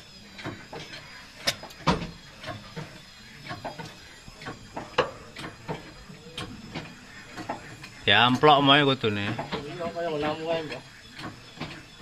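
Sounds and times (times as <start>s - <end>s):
sharp knocks and clanks: 0.4s - 12.0s.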